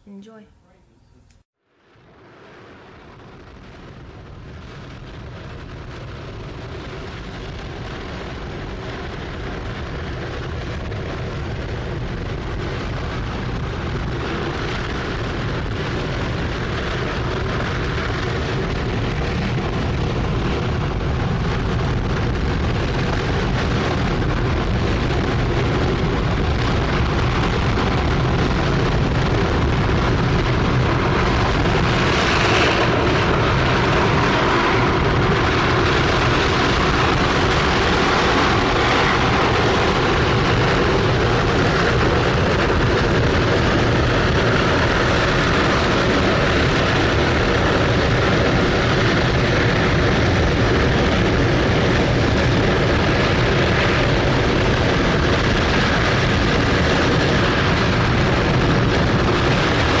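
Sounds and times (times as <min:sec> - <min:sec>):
rocket engine roaring: 0:01.1 - 1:00.0.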